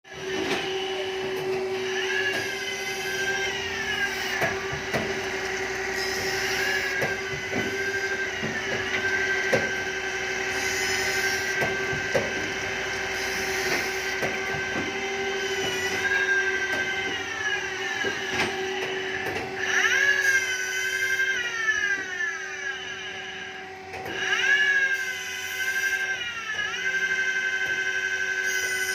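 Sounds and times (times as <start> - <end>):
grinding machine whining: 0.0 - 28.9.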